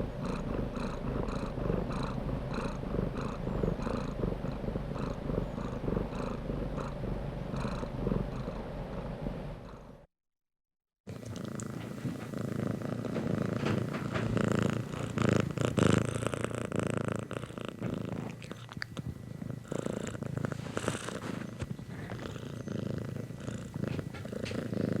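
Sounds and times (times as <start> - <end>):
cat purring: 0.0 - 10.1, 11.1 - 25.0.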